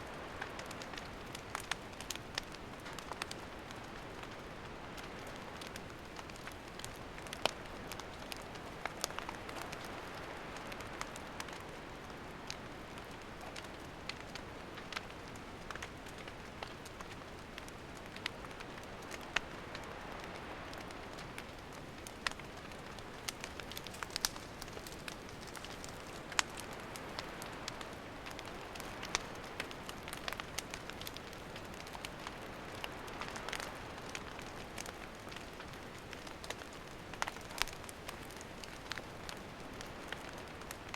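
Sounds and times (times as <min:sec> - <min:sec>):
campfire hissing and crackling: 0:00.0 - 0:40.9.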